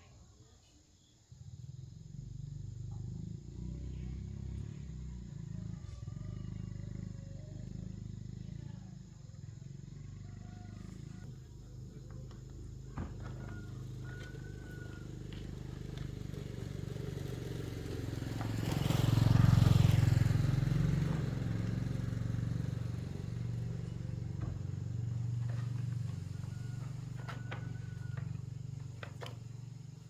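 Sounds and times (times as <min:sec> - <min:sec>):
motor engine running: 0:01.4 - 0:30.0.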